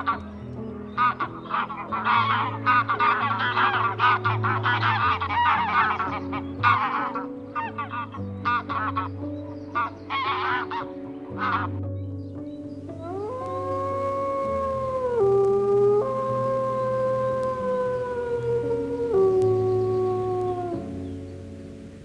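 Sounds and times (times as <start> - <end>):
background music of held notes: 0.0 - 22.0.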